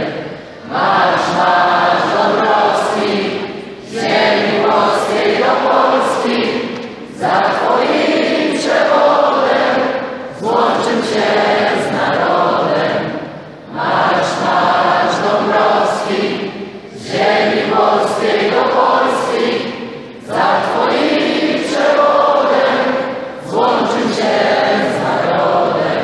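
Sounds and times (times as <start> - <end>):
crowd singing a chant: 0.0 - 26.0.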